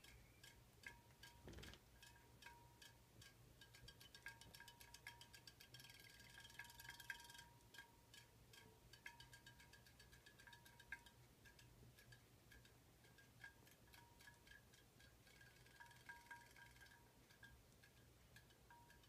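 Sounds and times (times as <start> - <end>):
toy tapping against bowl: 0.0 - 19.0.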